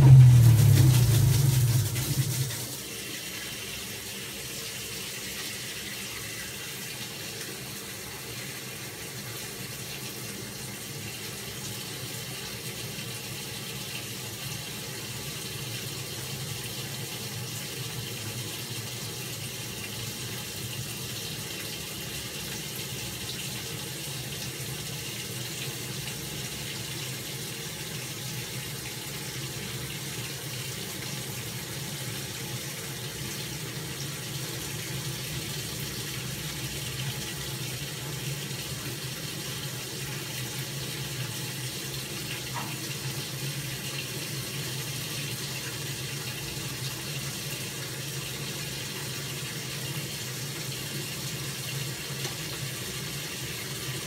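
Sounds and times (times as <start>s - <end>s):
washing machine filling with water: 0.0s - 54.0s.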